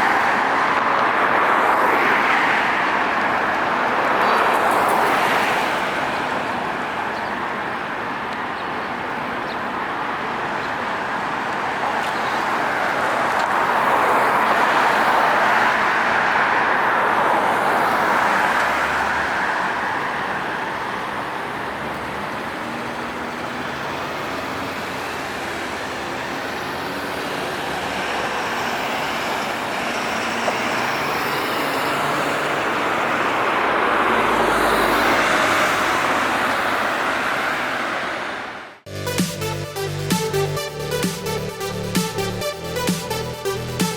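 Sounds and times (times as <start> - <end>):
road traffic passing: 0.0 - 43.9.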